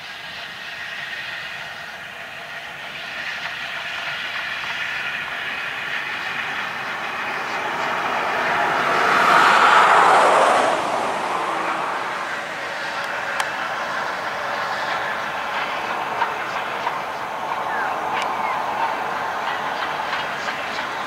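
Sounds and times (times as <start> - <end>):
train wheels rattling on rails: 0.0 - 21.0.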